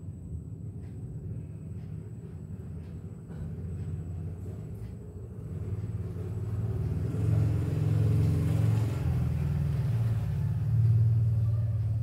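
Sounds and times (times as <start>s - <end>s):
motor vehicle engine running: 0.0s - 12.0s.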